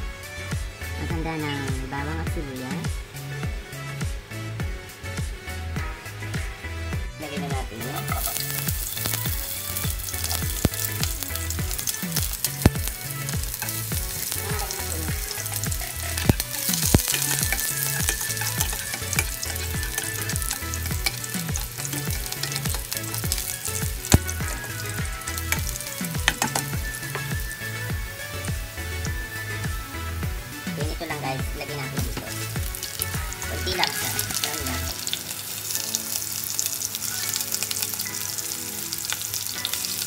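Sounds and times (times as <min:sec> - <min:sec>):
garlic and onion sizzling in oil: 0:00.0 - 0:40.0.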